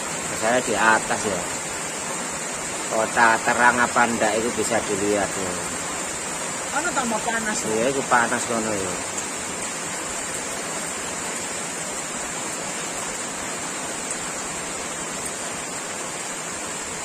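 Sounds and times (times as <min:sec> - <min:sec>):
rain on roofs and trees: 0:00.0 - 0:17.0.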